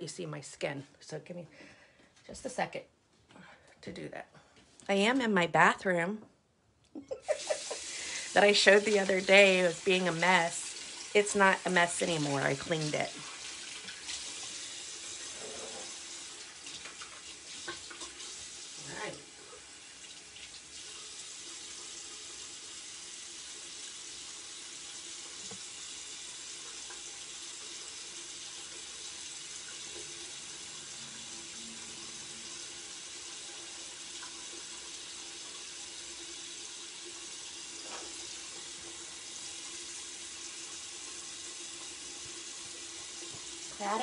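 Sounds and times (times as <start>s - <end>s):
sink tap running: 7.2s - 44.0s.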